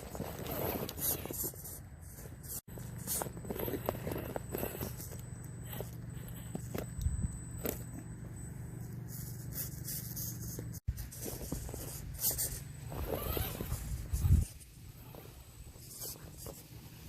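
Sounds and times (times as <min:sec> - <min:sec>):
small electric motor whirring: 0:00.1 - 0:17.0.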